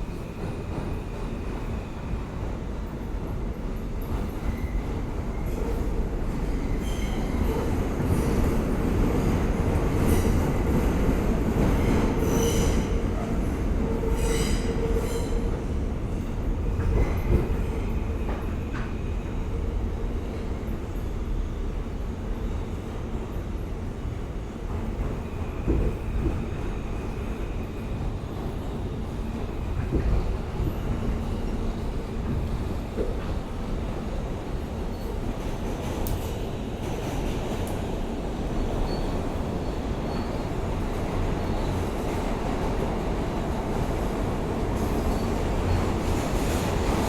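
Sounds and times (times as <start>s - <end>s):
subway wheels rumbling on rail: 0.0s - 47.0s.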